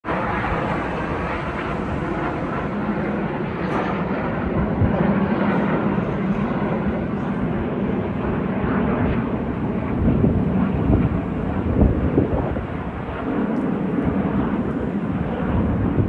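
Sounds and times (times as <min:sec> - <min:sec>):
small airplane engines droning: 0:00.0 - 0:16.0.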